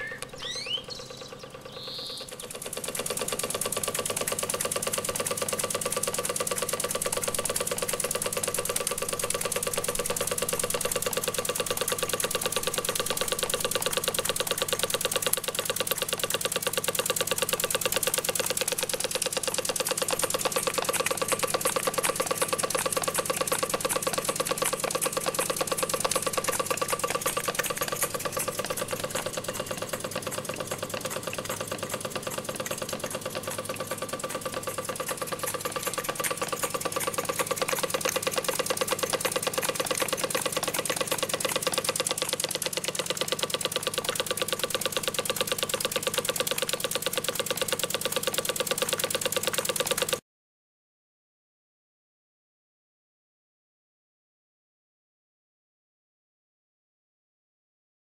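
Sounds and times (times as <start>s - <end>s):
model steam engines chuffing: 0.0s - 50.2s.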